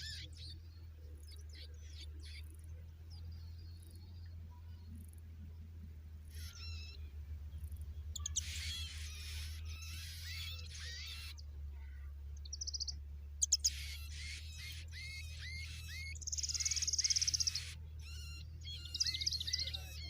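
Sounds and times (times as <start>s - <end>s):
baby birds cheeping: 0.0s - 5.2s, 6.0s - 20.0s
steady low hum: 0.0s - 20.0s.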